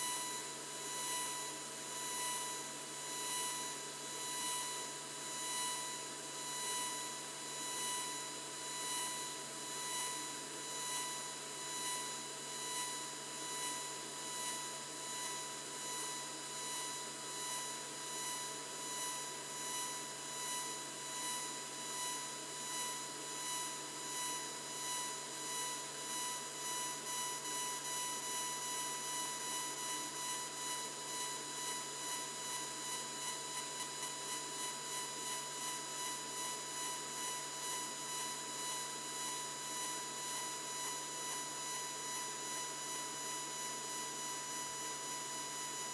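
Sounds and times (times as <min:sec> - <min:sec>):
laser engraver whine and hiss: 0:00.0 - 0:45.9.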